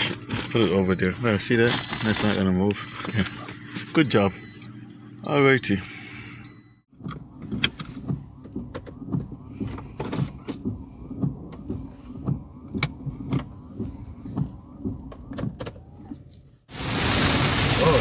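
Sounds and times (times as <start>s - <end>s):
low rumble inside car: 0.0s - 16.7s.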